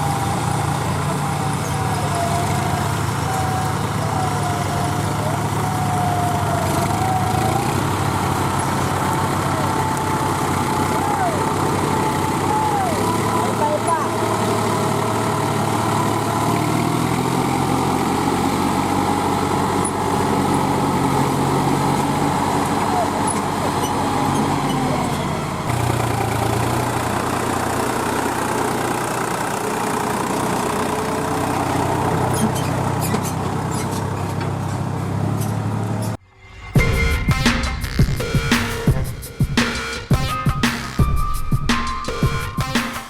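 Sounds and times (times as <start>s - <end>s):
diesel farm machinery running: 0.0s - 43.0s.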